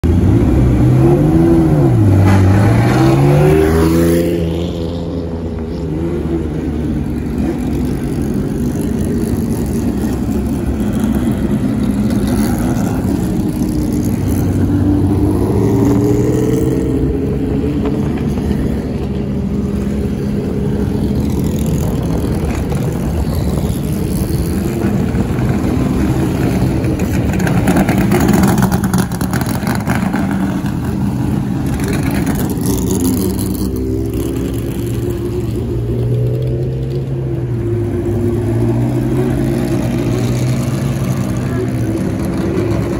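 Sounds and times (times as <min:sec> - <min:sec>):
race car engines revving: 0:00.0 - 0:42.9
race cars passing: 0:00.0 - 0:42.9.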